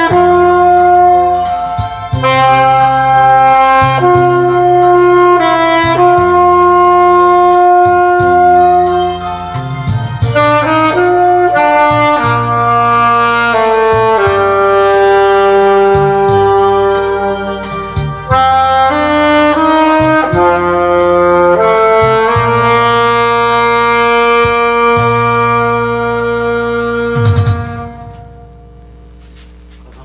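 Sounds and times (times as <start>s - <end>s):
saxophone melody: 0.0s - 29.8s
backing track with steady beat: 0.0s - 30.0s.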